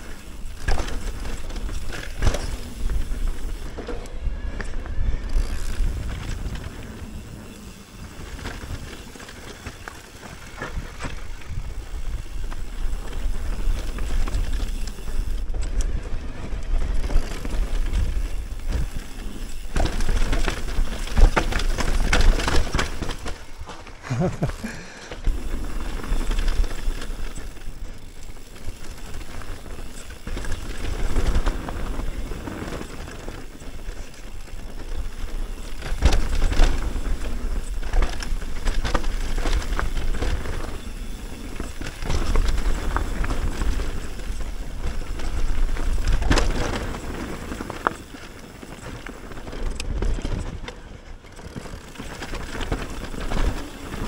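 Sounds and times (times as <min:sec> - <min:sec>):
bike rattling and knocking: 0:00.0 - 0:54.0
bike tyres rumbling over dirt: 0:00.0 - 0:54.0.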